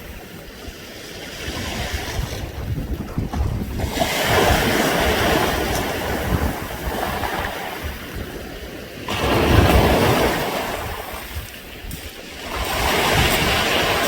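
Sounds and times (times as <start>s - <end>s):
waves rattling over pebbles: 0.0s - 14.0s.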